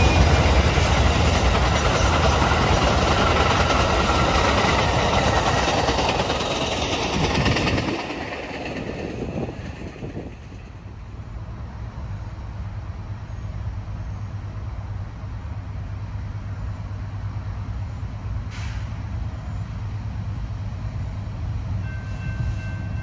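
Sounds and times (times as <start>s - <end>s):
train coaches rolling past: 0.0s - 23.0s.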